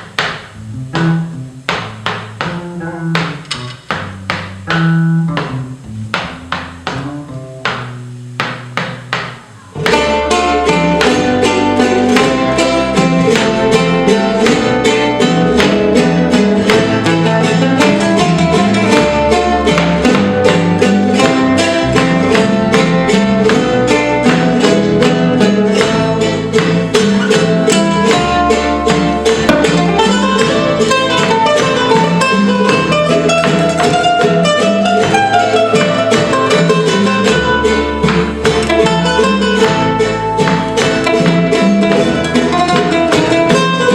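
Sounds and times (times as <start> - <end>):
bass: 0.0 - 43.9
picked guitar melody: 0.0 - 43.9
strummed guitars in fast rhythm: 0.0 - 43.9.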